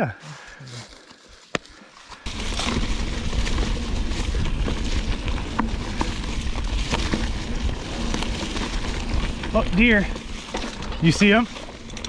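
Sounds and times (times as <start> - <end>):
sharp clicks from bike: 2.1 - 12.0
tyres rumbling over dirt: 2.1 - 12.0.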